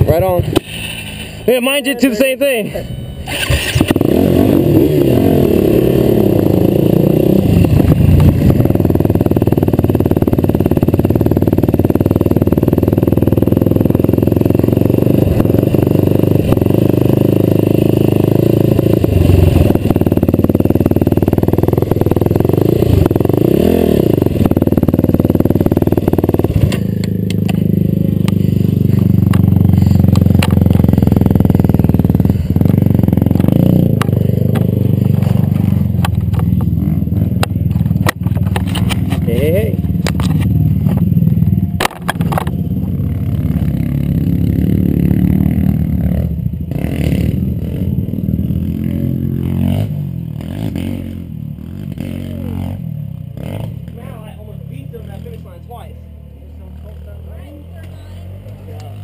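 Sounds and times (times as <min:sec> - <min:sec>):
quad engine revving: 0:03.2 - 0:59.0.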